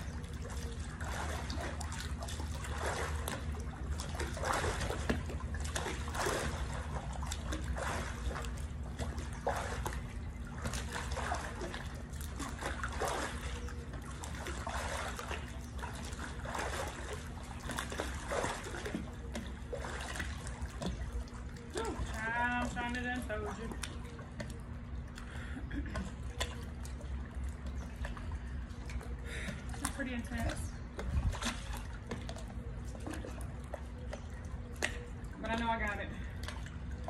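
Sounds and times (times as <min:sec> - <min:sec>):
pool water sloshing and splashing: 0:00.0 - 0:37.0
steady low hum: 0:00.0 - 0:37.0.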